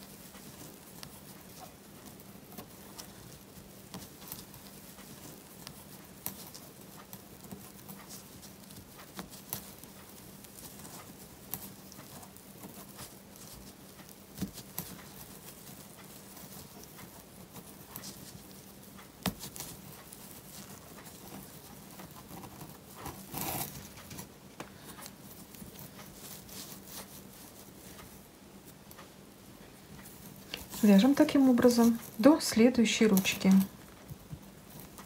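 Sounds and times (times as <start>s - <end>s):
twine rustling and scratching: 0.0s - 35.0s.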